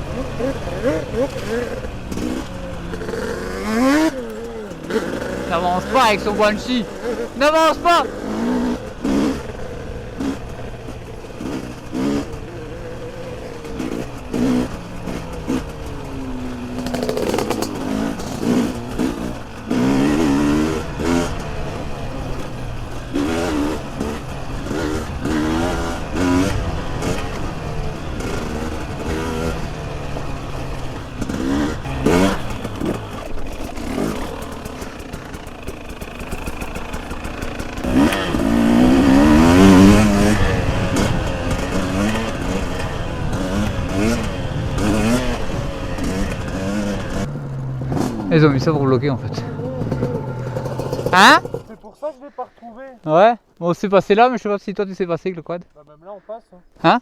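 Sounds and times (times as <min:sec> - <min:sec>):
two-stroke motorcycle engine revving: 0:00.0 - 0:54.2
engine clatter: 0:00.0 - 0:57.0.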